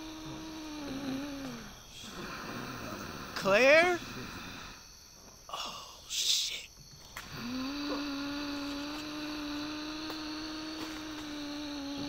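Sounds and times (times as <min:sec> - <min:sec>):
eerie low hum: 0:00.0 - 0:12.0.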